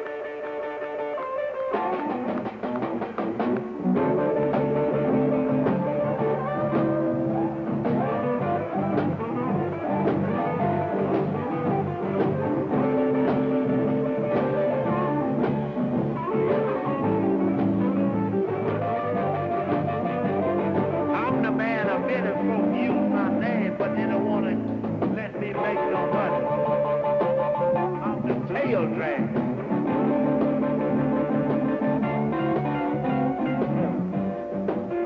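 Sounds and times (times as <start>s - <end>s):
electric guitar: 0.0s - 35.0s
steady drum beat: 1.7s - 35.0s.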